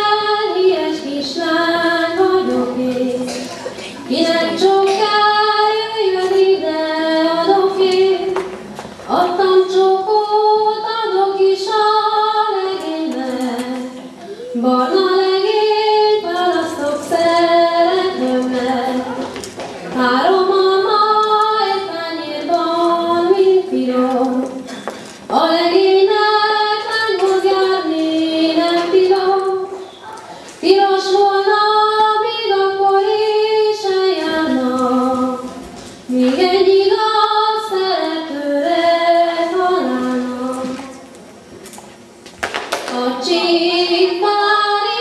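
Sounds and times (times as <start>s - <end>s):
woman singing into a microphone: 0.0s - 8.5s, 9.1s - 29.9s, 30.5s - 41.0s, 42.9s - 45.0s.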